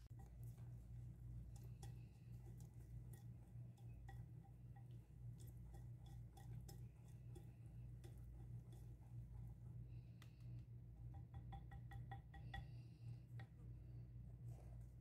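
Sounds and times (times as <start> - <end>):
whisk ticking against glass bowl: 0.0 - 13.6
low steady hum: 0.0 - 15.0.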